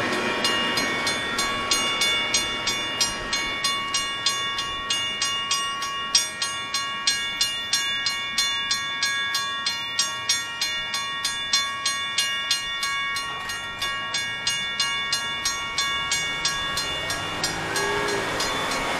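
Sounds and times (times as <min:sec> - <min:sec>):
railroad crossing bell ringing: 0:00.0 - 0:18.9.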